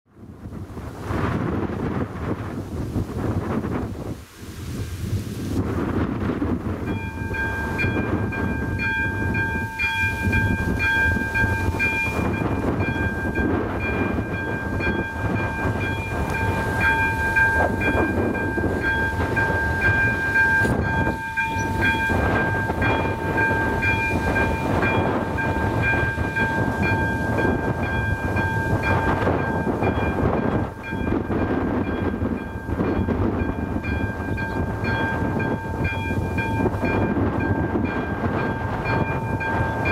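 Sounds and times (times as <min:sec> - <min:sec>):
level crossing warning bell ringing: 0:06.5 - 0:39.9.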